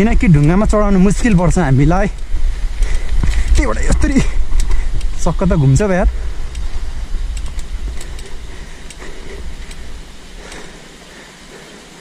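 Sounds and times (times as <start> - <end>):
bicycle clicks and rattles: 0.0 - 5.2, 5.9 - 12.0
wind rumble on microphone: 0.0 - 10.6.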